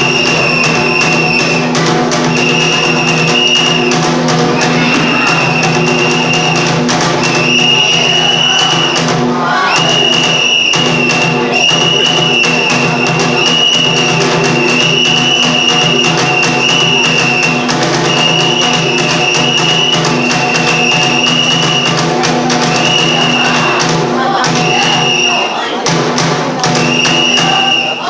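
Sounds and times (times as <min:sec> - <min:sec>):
drum beating quick rhythm: 0:00.0 - 0:28.0.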